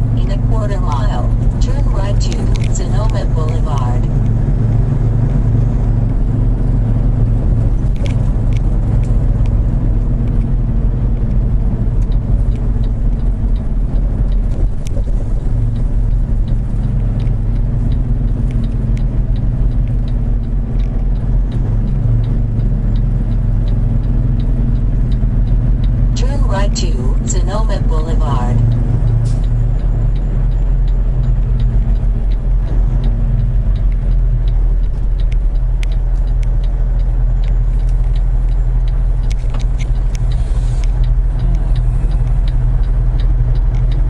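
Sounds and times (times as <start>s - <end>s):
road noise: 0.0s - 44.0s
truck engine drone: 0.0s - 44.0s.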